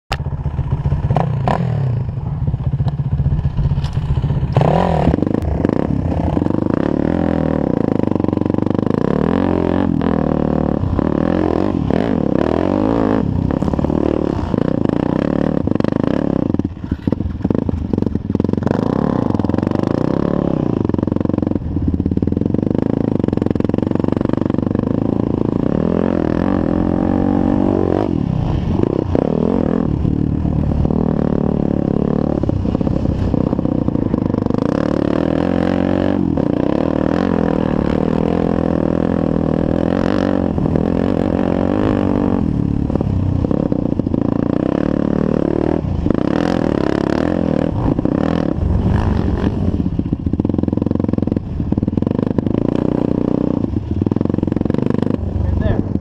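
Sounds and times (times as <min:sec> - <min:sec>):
atv engine idling and revving: 0:00.1 - 0:56.0.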